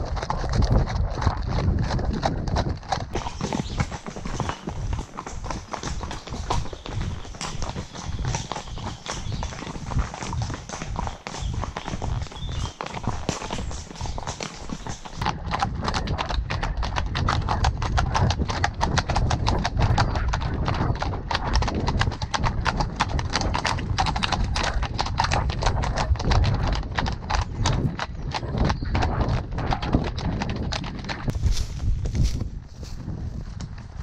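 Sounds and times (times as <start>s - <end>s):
horse hooves on gravel track: 0.0s - 34.0s.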